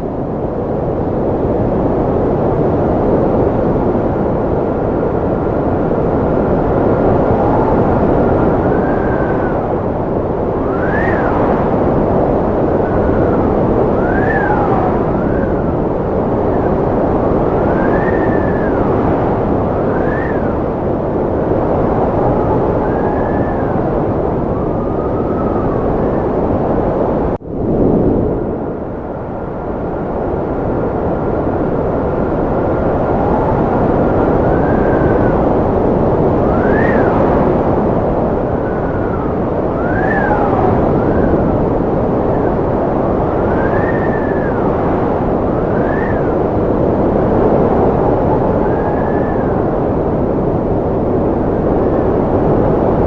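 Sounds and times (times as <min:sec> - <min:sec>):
strong wind whistling: 0:00.0 - 0:53.0.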